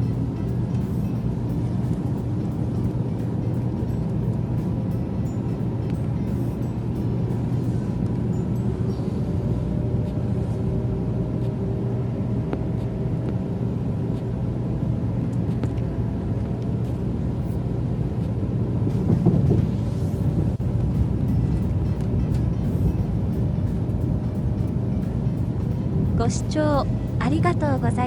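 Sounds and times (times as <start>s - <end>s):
train rumble inside cabin: 0.0s - 28.0s.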